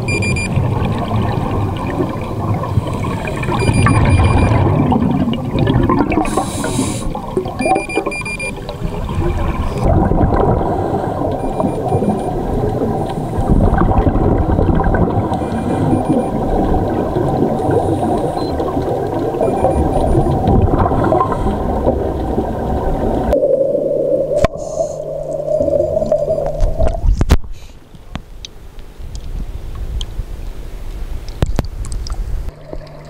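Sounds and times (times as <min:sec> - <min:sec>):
underwater bubbles gurgling: 0:00.0 - 0:27.4, 0:31.2 - 0:33.0.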